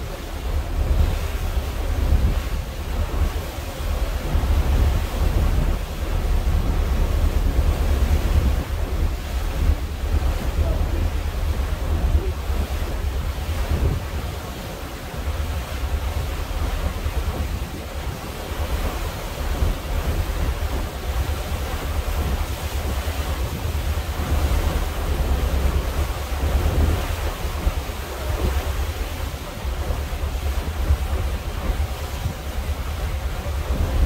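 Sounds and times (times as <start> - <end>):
small waves washing: 0.0 - 34.0
wind buffeting microphone: 0.0 - 34.0.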